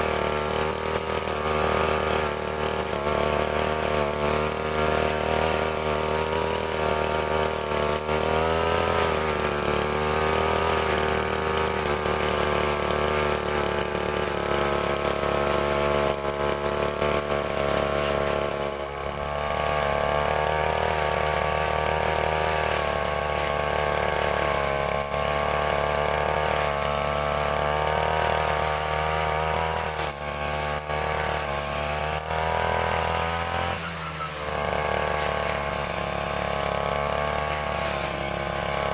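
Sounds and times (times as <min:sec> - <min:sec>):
brush cutter engine trimming grass: 0:00.0 - 0:38.9.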